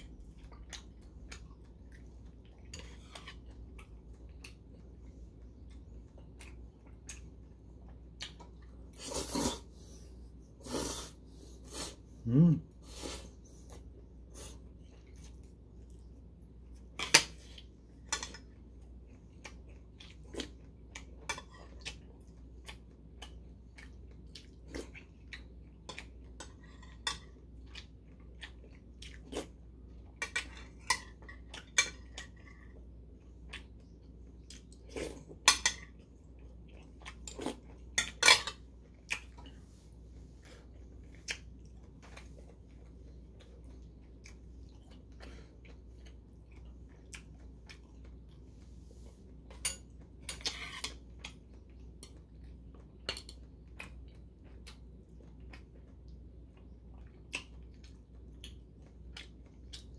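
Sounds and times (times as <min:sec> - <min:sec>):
chewing: 0:00.1 - 0:09.7, 0:13.6 - 0:59.9.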